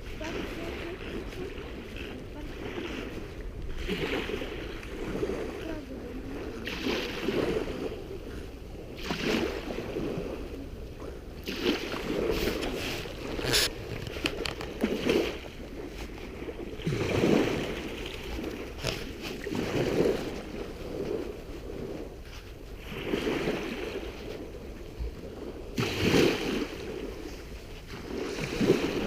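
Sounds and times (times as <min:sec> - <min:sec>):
gusty wind on microphone: 0:00.0 - 0:29.0
sea surf on beach: 0:00.0 - 0:29.0.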